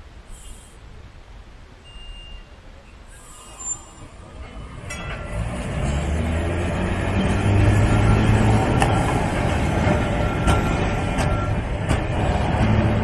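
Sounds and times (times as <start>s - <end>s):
tram wheels rumbling on rails: 2.2s - 13.0s
tram motor hum: 2.4s - 13.0s.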